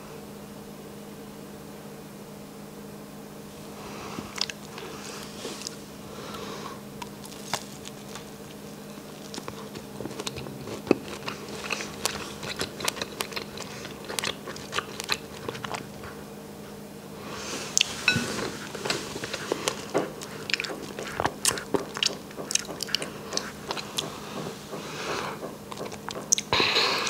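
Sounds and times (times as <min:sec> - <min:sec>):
biting and chewing: 0:03.6 - 0:16.3, 0:17.6 - 0:27.0.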